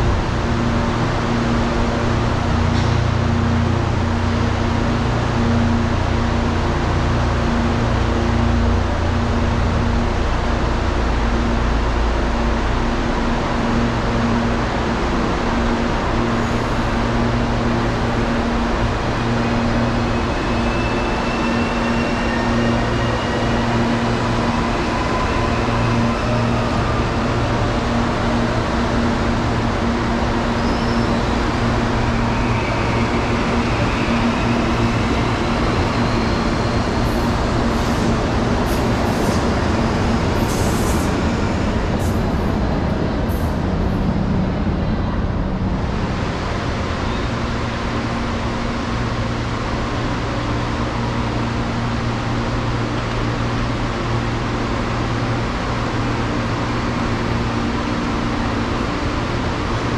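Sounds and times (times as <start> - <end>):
electric train humming: 0.0 - 59.9.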